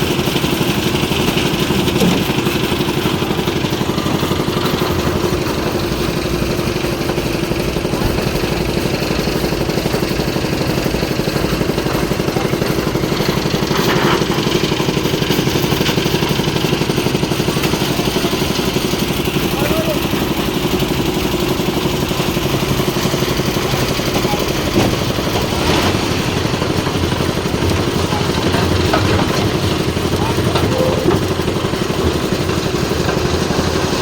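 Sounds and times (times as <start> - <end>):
machine engine running steadily: 0.0 - 34.0.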